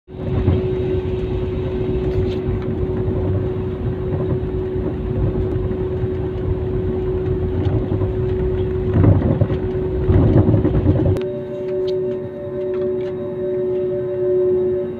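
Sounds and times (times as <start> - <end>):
jet engines rumbling: 0.1 - 14.9.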